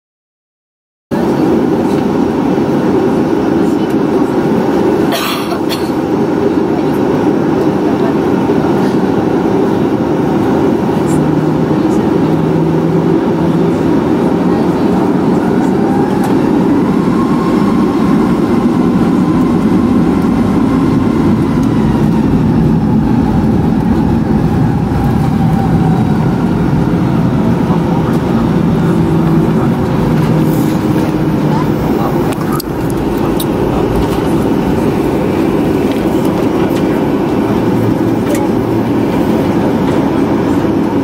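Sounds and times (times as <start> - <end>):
engine whine: 1.1 - 41.0
jet engines rumbling: 1.1 - 41.0.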